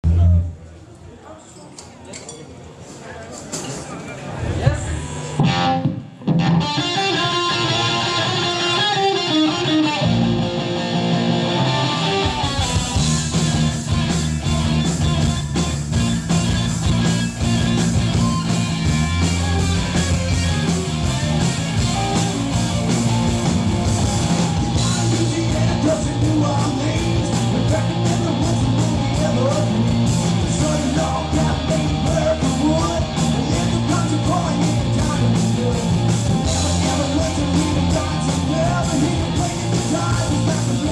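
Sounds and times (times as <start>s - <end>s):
electric guitar: 4.4s - 40.9s
rock band playing: 4.5s - 40.9s.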